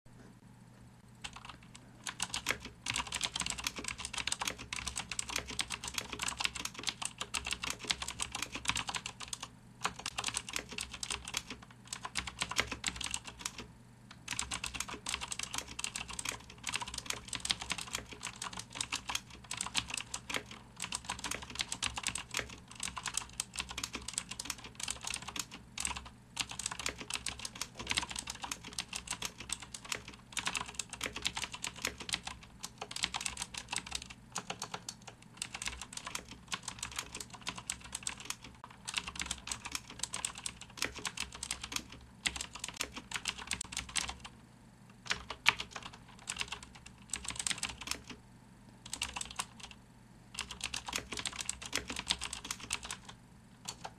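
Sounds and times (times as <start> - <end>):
clicky keyboard typing: 1.2 - 44.3, 44.9 - 48.2, 48.8 - 49.8, 50.4 - 53.9.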